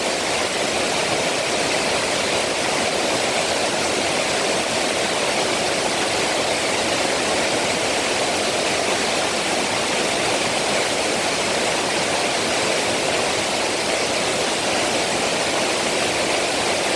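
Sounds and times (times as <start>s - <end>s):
waterfall rushing over rock: 0.0s - 16.9s.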